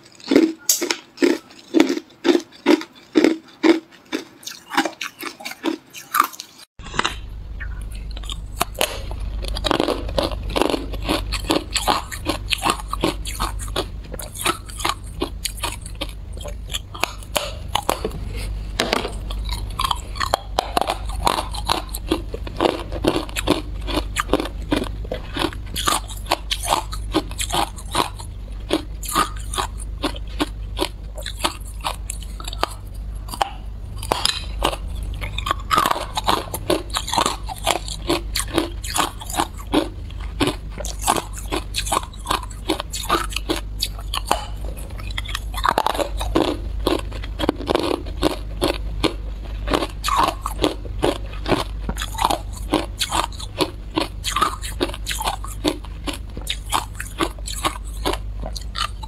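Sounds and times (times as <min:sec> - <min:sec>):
ice crunching while chewed: 0:00.0 - 0:07.2, 0:07.8 - 0:59.0.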